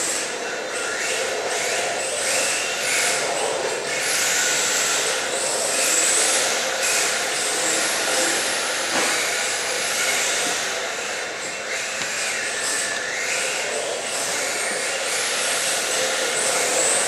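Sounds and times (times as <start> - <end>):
rc car motor whine: 0.0 - 17.0.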